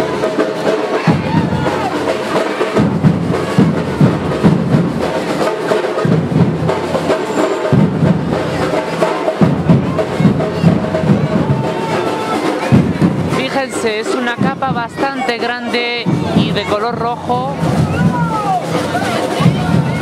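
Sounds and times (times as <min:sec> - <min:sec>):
bass drums beating: 0:00.0 - 0:20.0
drum group playing: 0:00.0 - 0:20.0.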